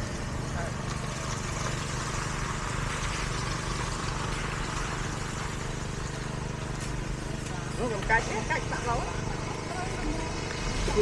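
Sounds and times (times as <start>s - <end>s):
construction machinery engine running: 0.0s - 11.0s.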